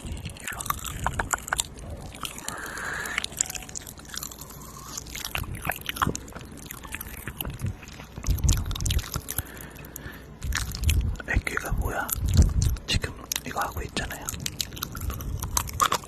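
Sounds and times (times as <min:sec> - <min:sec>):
wet mouth clicks and smacks: 0:00.0 - 0:16.0.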